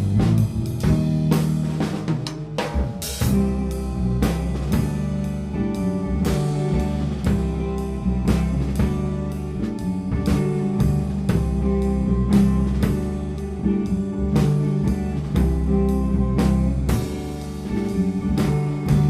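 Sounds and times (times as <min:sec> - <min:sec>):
drum kit beat: 0:00.0 - 0:19.0
instrumental rock band: 0:00.0 - 0:19.0.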